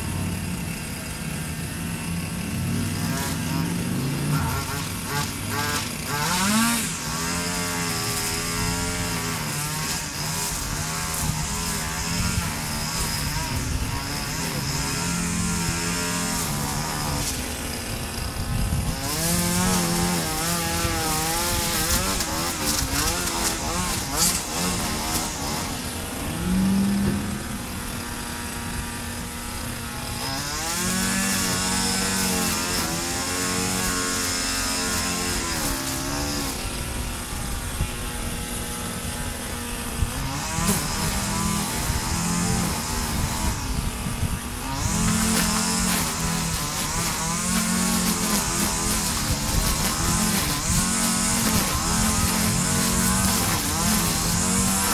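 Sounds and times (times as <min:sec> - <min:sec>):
string trimmer engine revving: 0:00.0 - 0:54.9.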